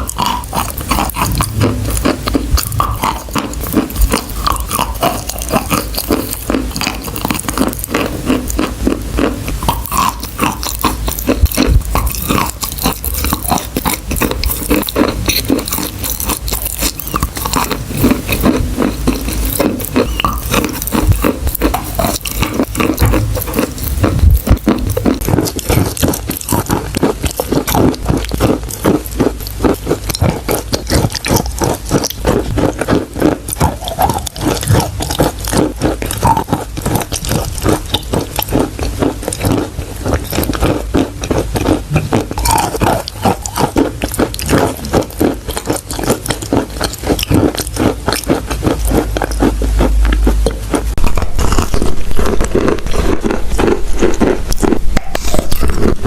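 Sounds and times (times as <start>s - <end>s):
chewing chalk crunches: 0.0s - 56.0s.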